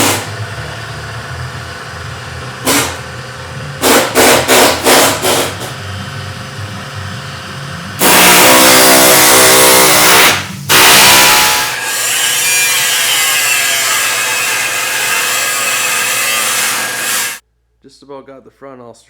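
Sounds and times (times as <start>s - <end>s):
power tool whining: 0.0s - 17.4s.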